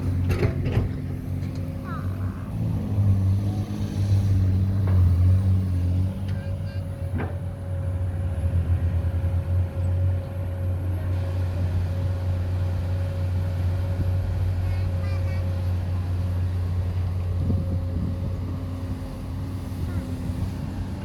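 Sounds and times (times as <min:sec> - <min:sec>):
construction machinery engine running: 0:00.0 - 0:21.0.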